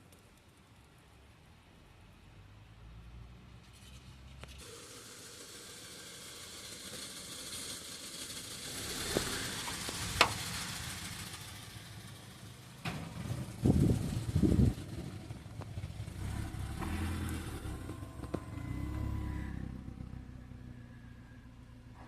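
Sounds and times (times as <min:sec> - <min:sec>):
vehicle passing hiss: 0:02.3 - 0:22.0.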